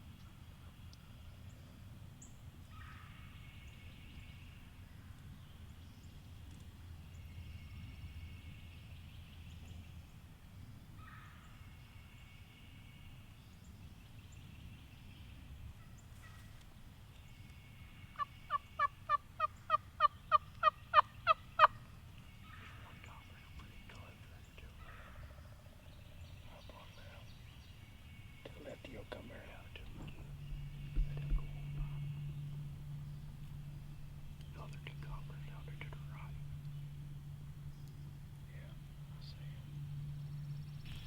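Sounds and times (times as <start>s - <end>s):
faint birds: 0.0s - 41.0s.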